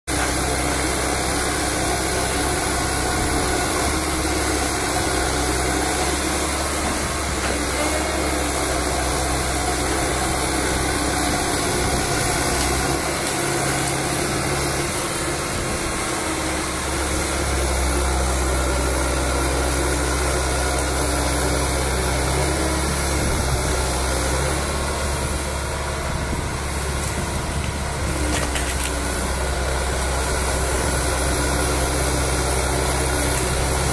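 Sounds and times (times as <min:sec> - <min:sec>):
hydraulic boom and grab working: 0:00.1 - 0:19.7, 0:26.0 - 0:33.9
diesel engine droning: 0:00.1 - 0:33.9.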